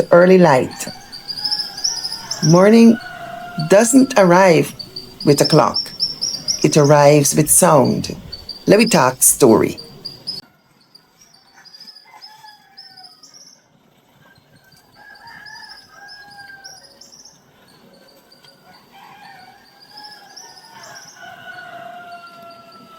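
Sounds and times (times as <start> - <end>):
roosters crowing: 0.0 - 10.4, 11.6 - 13.6, 14.9 - 17.3, 18.6 - 22.9
small birds chirping: 0.0 - 13.6, 14.3 - 22.9.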